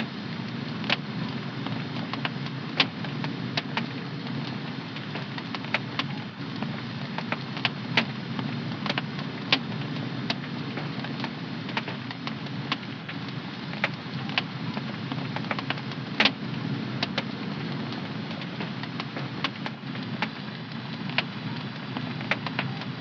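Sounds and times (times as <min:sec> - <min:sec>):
fire crackling and popping: 0:00.0 - 0:23.0
wood fire burning: 0:00.0 - 0:23.0.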